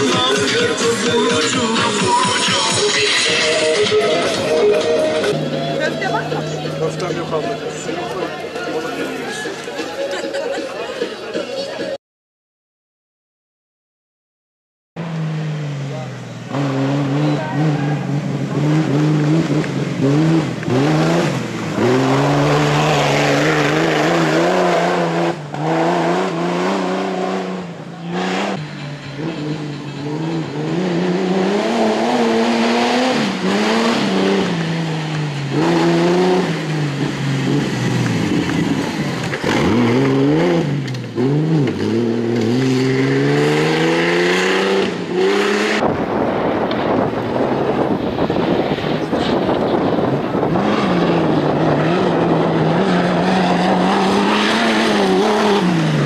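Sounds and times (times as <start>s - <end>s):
race vehicle engines revving: 0.0s - 12.0s, 15.0s - 56.0s.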